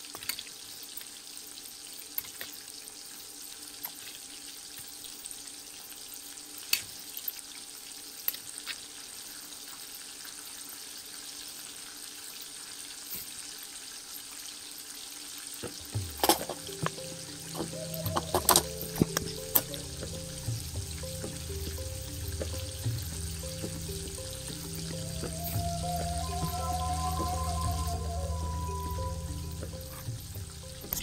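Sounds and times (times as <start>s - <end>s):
chicken sizzling in hot oil: 0.0s - 25.9s.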